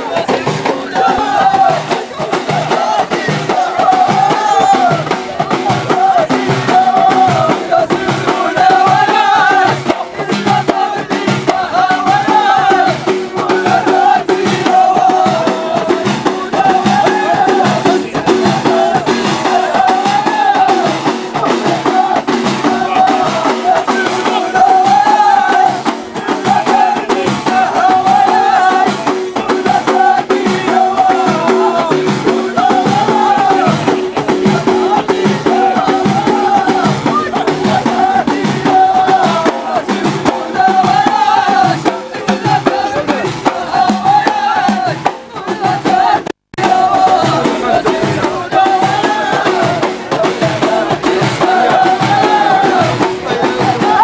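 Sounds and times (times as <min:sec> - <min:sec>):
men singing in unison: 0:00.0 - 0:54.0
rapid frame drum beat: 0:00.0 - 0:54.0.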